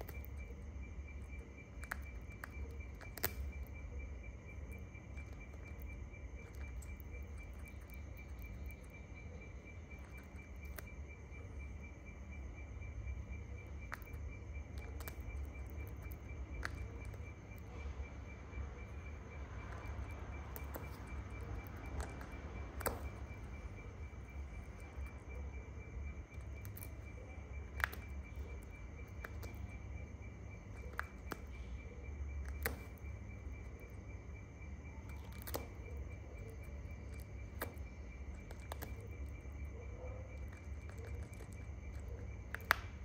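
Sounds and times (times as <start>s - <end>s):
constant low hum: 0.0s - 43.0s
pulsing insect trill: 0.0s - 43.0s.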